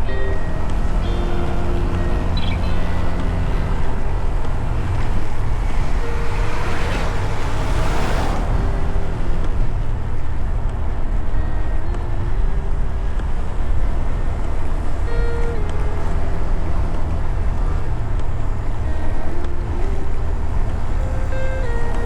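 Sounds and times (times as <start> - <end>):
motorcycle engine hum: 0.0 - 22.0
wind rush on microphone: 0.0 - 22.0.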